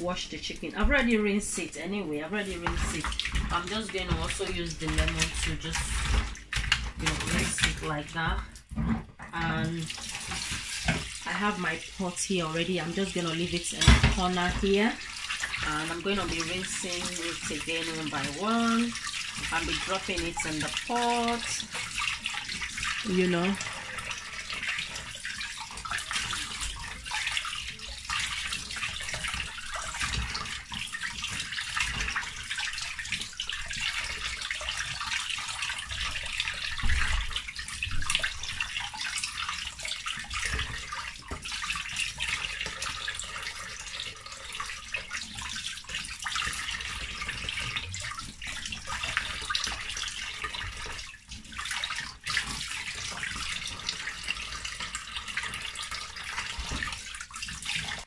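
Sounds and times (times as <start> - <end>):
tap water running into steel sink: 0.0 - 58.0
water splashing over chicken: 9.4 - 58.0.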